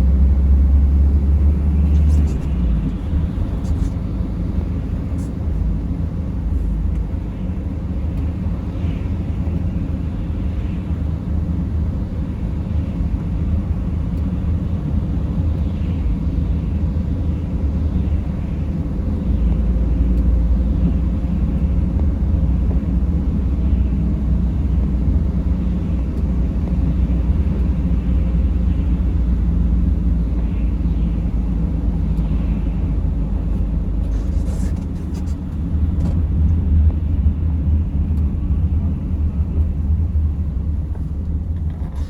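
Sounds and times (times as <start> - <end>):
car engine rumble: 0.0 - 42.0
road noise: 0.0 - 42.0.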